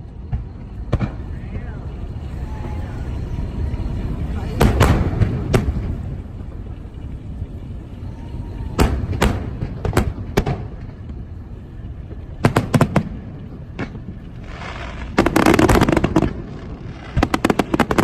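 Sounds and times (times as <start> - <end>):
fireworks bursting: 0.0 - 18.0
low rumble: 0.0 - 18.0.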